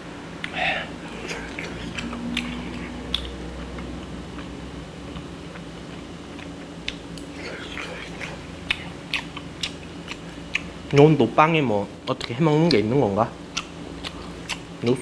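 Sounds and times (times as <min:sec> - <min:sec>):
person chewing food: 0:00.4 - 0:11.1, 0:13.5 - 0:15.0.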